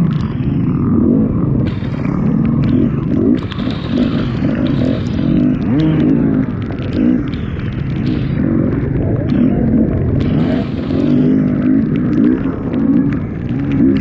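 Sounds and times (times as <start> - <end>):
dirt bike engine revving: 0.0 - 14.0
sharp clicks: 0.0 - 14.0.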